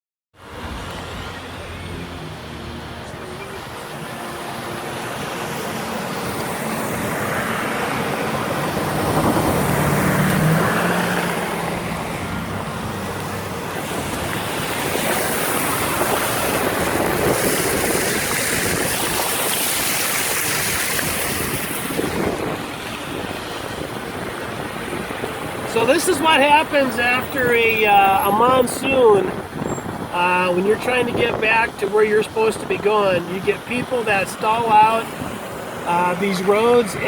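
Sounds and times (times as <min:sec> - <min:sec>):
tyres spraying through floodwater: 0:00.4 - 0:37.0.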